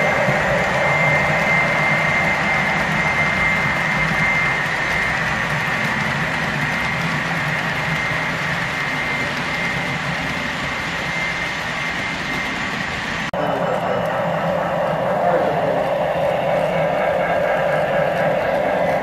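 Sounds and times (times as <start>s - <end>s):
model train rolling rumble: 0.0s - 19.0s
steady running drone: 0.0s - 19.0s.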